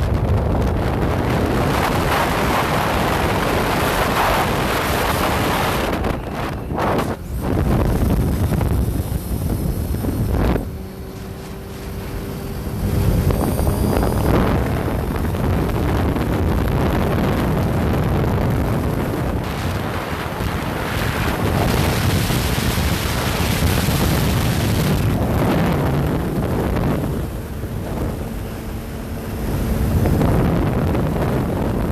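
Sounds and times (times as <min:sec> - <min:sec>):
motorcycle engine and road noise: 0:00.0 - 0:31.9
wind buffeting microphone: 0:00.0 - 0:31.9.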